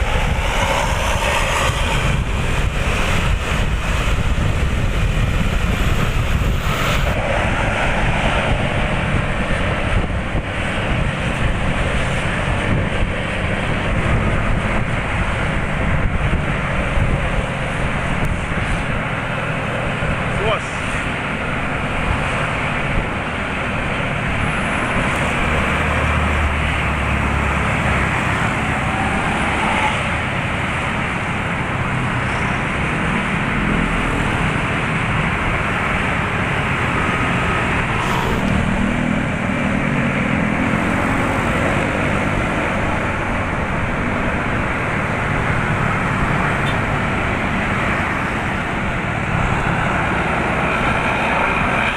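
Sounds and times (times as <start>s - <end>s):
bus diesel engine running: 0.0s - 51.9s
road noise: 0.0s - 51.9s.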